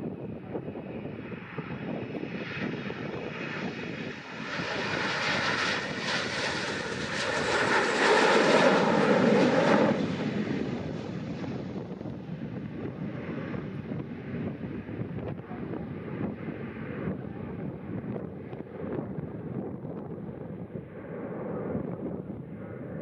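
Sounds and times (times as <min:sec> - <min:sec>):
jet engines at takeoff power: 0:00.0 - 0:23.0
wind rumble on microphone: 0:00.0 - 0:23.0.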